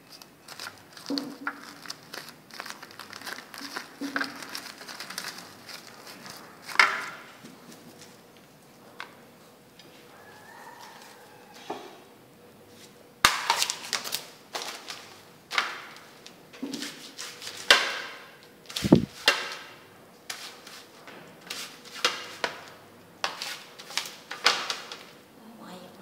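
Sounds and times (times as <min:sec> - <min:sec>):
rice paper crackling: 0:00.0 - 0:08.3, 0:12.8 - 0:25.3.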